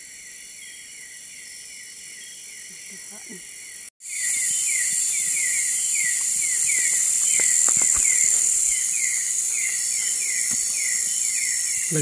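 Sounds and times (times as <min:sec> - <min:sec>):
falling insect chirp: 0:00.0 - 0:12.0
shrill insect hiss: 0:00.0 - 0:12.0.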